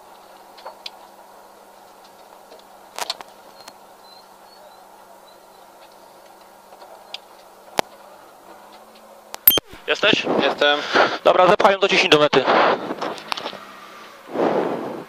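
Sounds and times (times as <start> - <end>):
faint steady hum in car cabin: 0.1 - 12.3.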